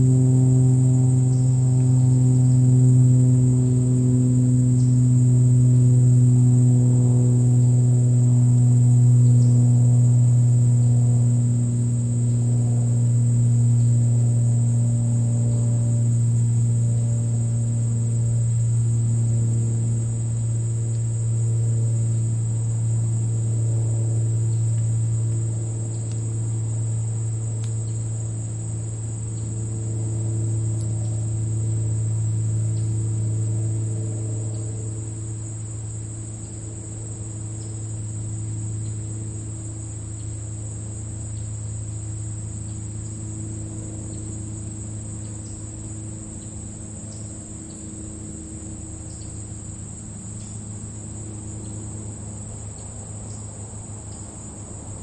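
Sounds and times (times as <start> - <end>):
crickets chirping: 0.0 - 55.0
low steady hum: 0.0 - 55.0.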